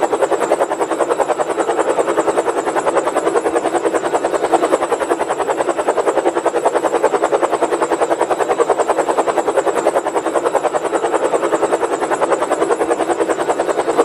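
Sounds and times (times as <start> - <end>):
rapid chopping siren: 0.0 - 14.0.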